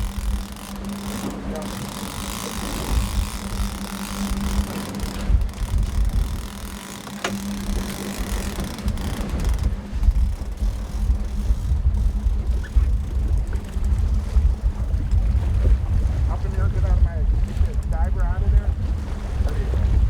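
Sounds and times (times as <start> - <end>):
boat engine humming: 0.0 - 20.0
wind buffeting microphone: 0.0 - 20.0.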